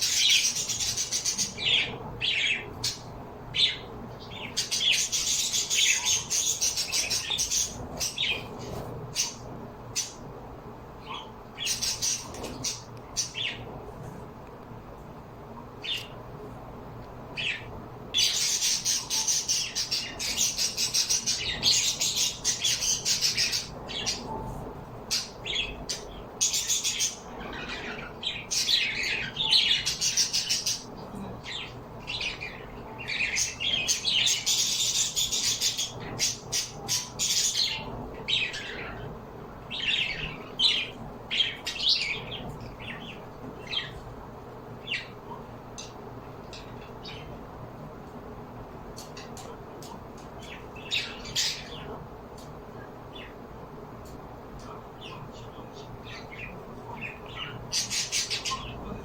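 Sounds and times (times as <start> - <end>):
birds chirping and squawking: 0.0 - 14.1, 15.7 - 16.4, 17.2 - 47.8, 48.8 - 59.0.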